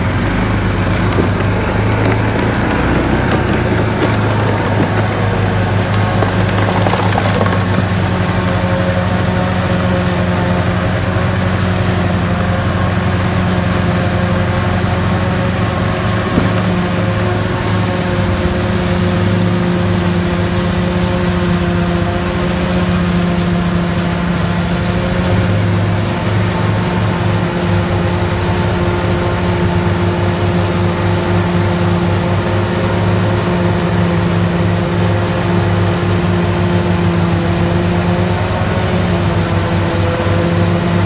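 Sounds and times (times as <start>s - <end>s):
forage harvester engine drone: 0.0s - 41.0s.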